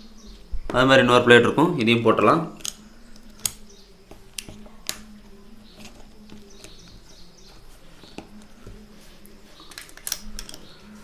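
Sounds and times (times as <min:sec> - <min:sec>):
faint bird chirps: 0:00.0 - 0:00.9, 0:01.5 - 0:11.0.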